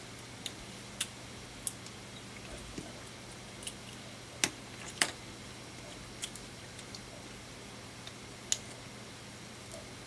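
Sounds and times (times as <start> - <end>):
faint steady low hum: 0.0 - 10.0.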